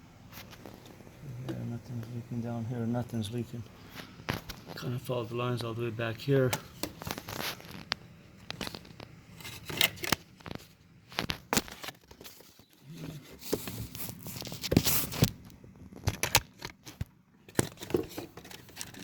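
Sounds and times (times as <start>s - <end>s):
rustling and scraping: 0.2s - 2.2s, 3.7s - 5.8s, 6.5s - 19.0s.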